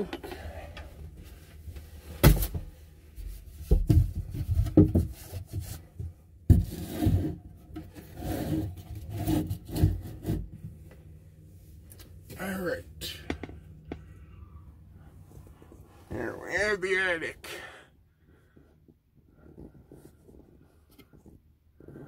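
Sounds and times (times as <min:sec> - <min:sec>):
bumps and rubbing: 0:00.0 - 0:17.4, 0:18.2 - 0:22.0.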